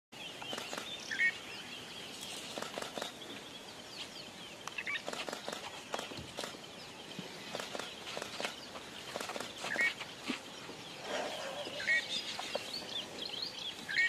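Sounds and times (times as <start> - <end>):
birds chirping and twittering: 0.2 - 14.0.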